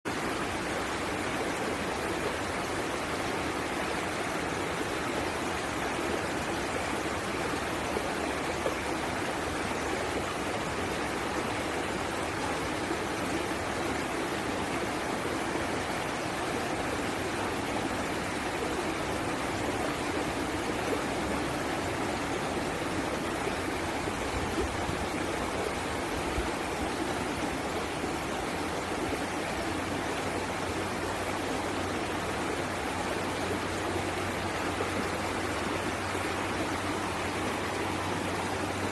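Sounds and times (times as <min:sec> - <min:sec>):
water rushing in a stream: 0:00.1 - 0:38.9.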